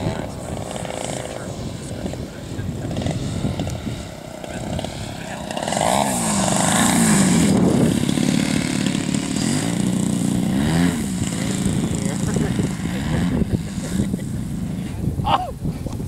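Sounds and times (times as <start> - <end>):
model plane engine and propeller: 0.0 - 16.0.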